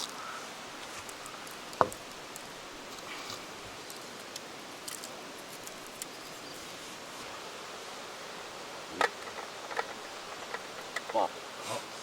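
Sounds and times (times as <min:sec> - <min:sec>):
campfire crackling: 0:00.0 - 0:11.6.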